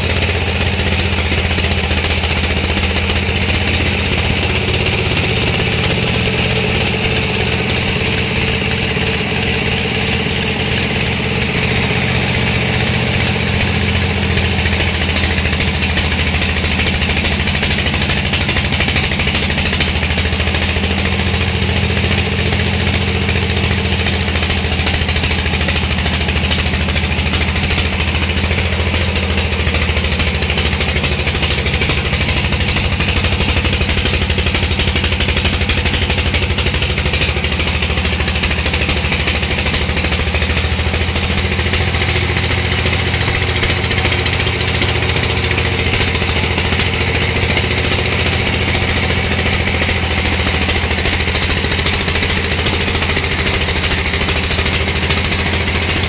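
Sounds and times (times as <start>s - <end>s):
low motor hum: 0.0s - 56.0s
machinery hiss: 0.0s - 56.0s.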